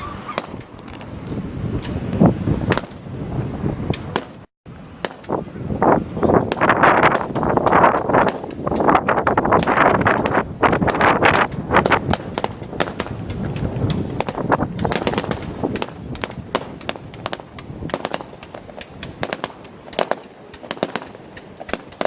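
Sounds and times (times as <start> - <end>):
fireworks crackling and popping: 0.0 - 22.0.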